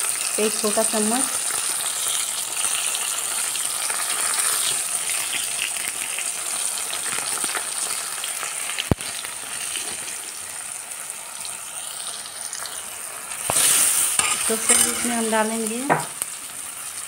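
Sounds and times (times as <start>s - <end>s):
tomato and chillies sizzling in oil: 0.0s - 17.0s.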